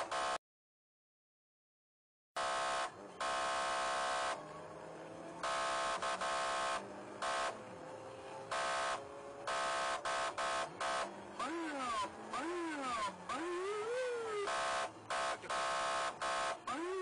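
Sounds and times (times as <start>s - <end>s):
police siren buzzing horn blasts: 0.0s - 0.4s, 2.4s - 17.0s
car engine accelerating: 2.4s - 17.0s.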